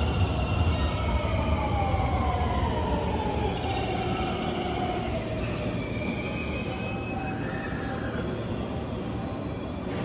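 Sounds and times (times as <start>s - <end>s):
electric train whine: 0.0s - 10.0s.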